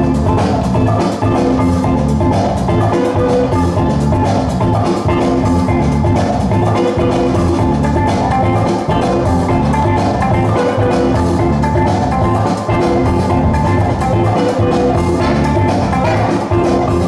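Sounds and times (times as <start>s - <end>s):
break-beat music: 0.0s - 17.0s.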